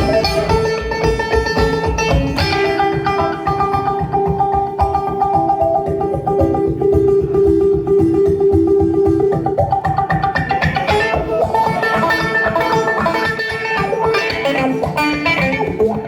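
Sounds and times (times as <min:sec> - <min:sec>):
banjo playing: 0:00.0 - 0:16.0.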